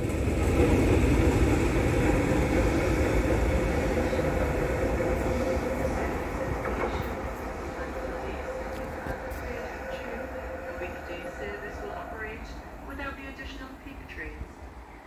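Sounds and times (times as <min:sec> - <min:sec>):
train pulling away: 0:00.0 - 0:14.2.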